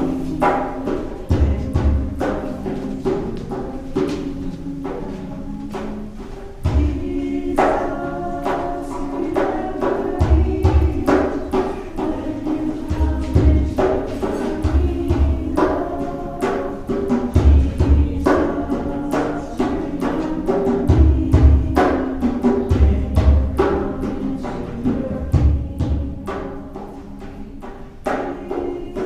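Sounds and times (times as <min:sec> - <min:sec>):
deep drum beats: 0:00.0 - 0:29.0
sharp percussive strikes: 0:00.0 - 0:29.0.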